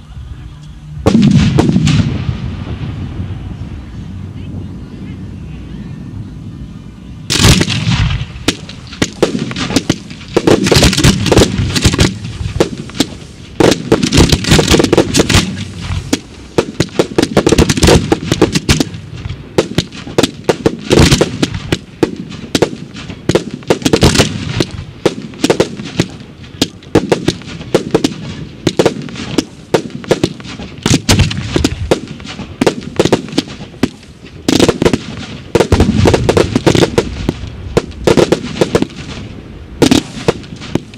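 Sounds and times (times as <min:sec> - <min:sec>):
fireworks bursting with bangs: 0:00.4 - 0:03.6, 0:07.3 - 0:40.9.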